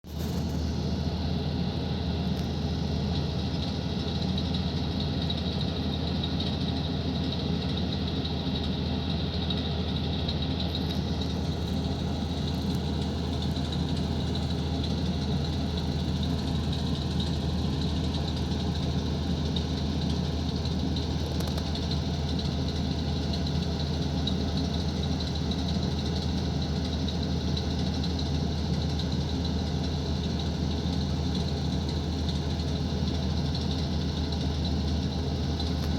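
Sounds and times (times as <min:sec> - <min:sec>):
diesel engine running steadily: 0:00.0 - 0:35.9.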